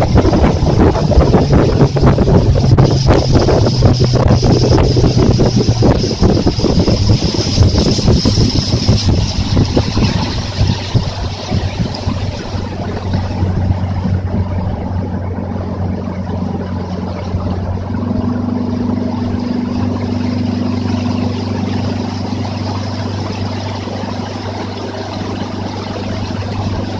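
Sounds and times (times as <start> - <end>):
higher engine tone: 0.0 - 26.9
outboard motor humming: 0.0 - 26.9
wind and water rushing: 0.0 - 26.9.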